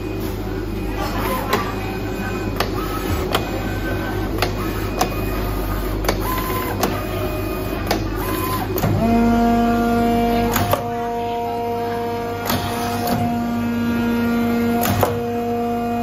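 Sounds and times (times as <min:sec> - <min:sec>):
multi-tone steady whine: 0:00.0 - 0:16.0.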